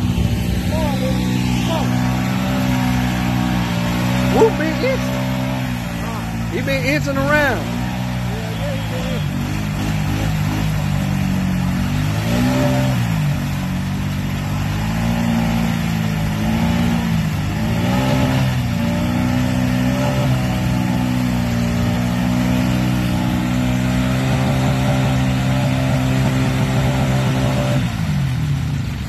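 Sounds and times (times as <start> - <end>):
atv engine revving: 0.0 - 29.0
wheels spinning in mud: 0.0 - 29.0.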